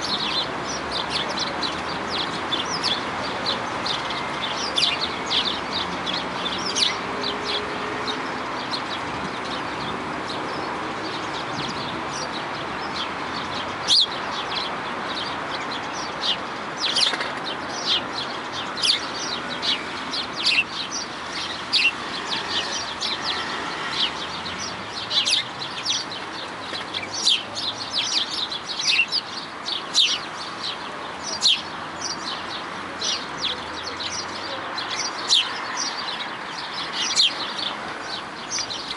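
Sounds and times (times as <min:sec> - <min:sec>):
birds chirping: 0:00.0 - 0:38.9
steady background noise: 0:00.0 - 0:38.9.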